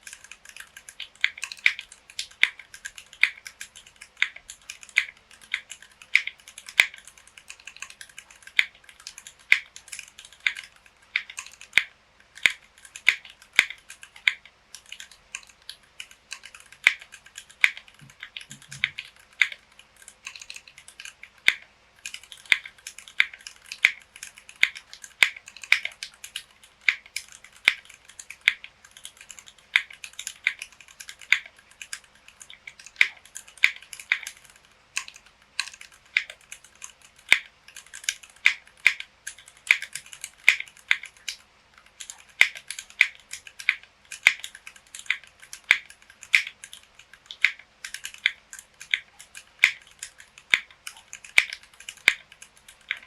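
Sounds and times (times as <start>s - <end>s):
mechanical keyboard typing: 0.0s - 53.0s.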